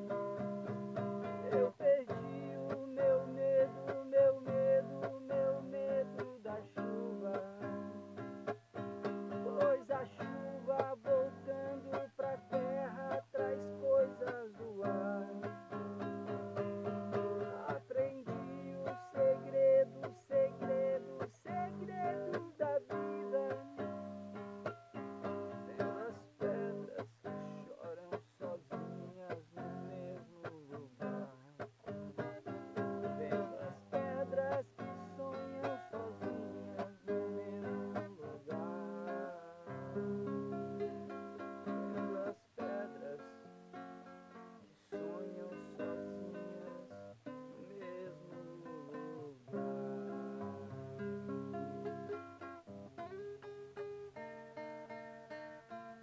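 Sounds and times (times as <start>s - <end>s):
acoustic guitar: 0.0s - 56.0s.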